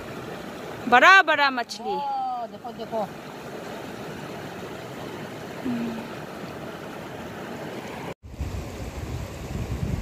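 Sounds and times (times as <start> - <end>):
river water running over stones: 0.0 - 10.0.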